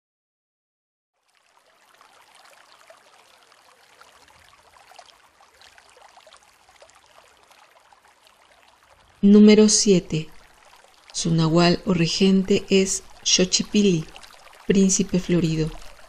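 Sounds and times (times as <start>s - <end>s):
water trickling and splashing: 1.2s - 16.0s.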